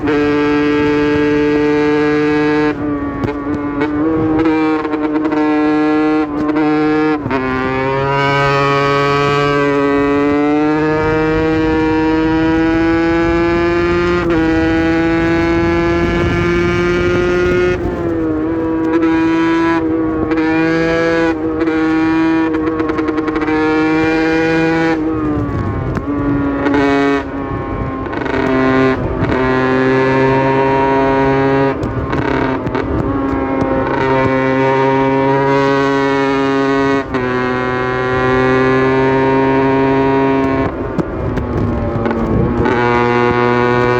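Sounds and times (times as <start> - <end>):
two-stroke engine revving high: 0.0 - 43.9.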